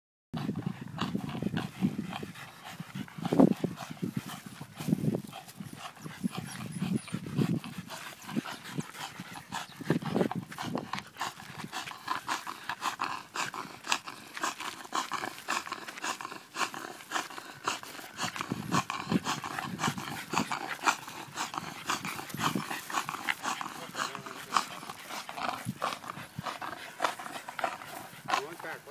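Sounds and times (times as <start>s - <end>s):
dog breathing hard: 0.4s - 28.9s
dog growling: 0.4s - 28.9s.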